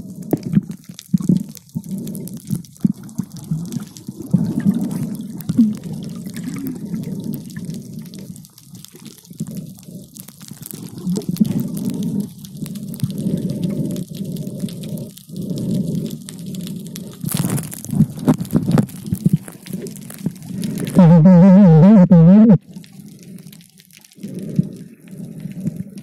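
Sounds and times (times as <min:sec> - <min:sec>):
water sloshing and bubbling: 0:00.0 - 0:21.9, 0:22.6 - 0:26.0.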